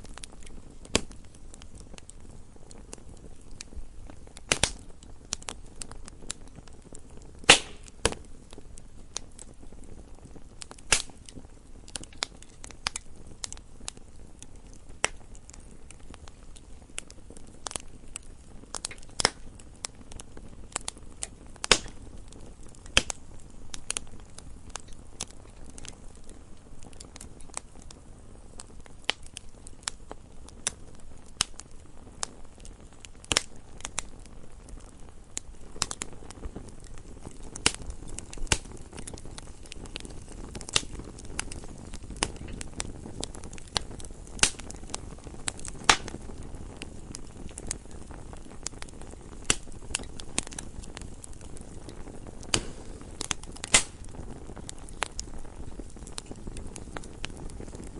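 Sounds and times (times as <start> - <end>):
campfire crackling and popping: 0.0 - 57.9
low rumble of flames: 0.0 - 57.9.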